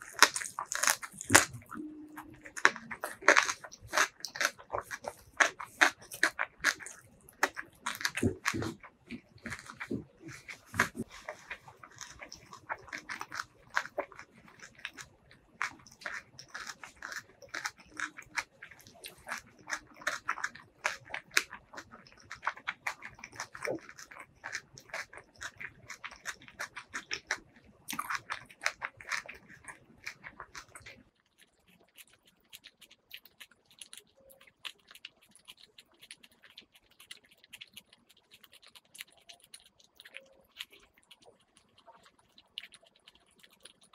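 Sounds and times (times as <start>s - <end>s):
chewing food with wet mouth clicks: 0.0s - 43.9s.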